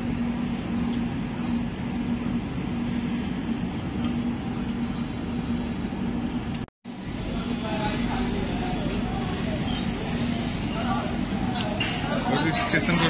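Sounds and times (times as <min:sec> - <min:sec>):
pulsing low hum: 0:00.0 - 0:11.6
train rumble: 0:00.0 - 0:13.0.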